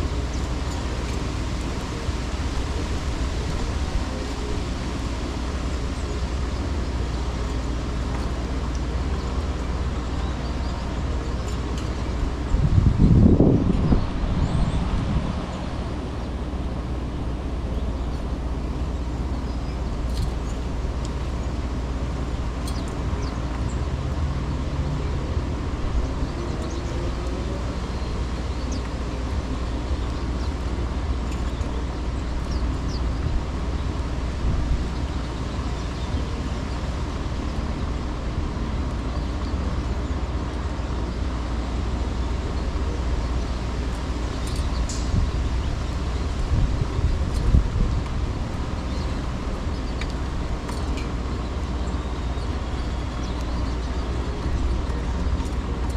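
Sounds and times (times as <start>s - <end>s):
distant traffic: 0.0s - 55.9s
wind rumble: 0.0s - 55.9s.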